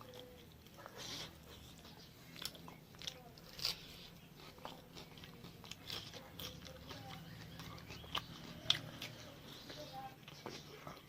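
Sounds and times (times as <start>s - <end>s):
person chewing and biting: 0.0s - 11.0s.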